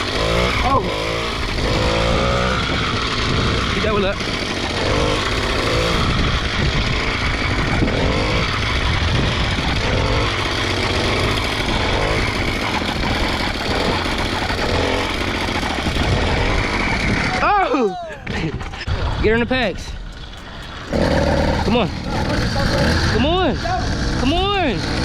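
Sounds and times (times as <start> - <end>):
motorized bicycle engine running: 0.0 - 17.7, 18.3 - 25.0
wind noise on microphone: 0.0 - 25.0.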